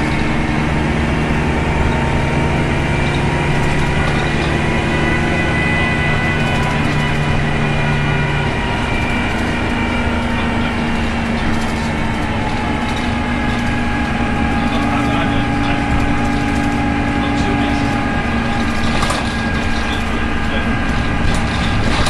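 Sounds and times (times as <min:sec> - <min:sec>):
bus engine howling whine: 0:00.0 - 0:22.0
drivetrain rumble: 0:00.0 - 0:22.0.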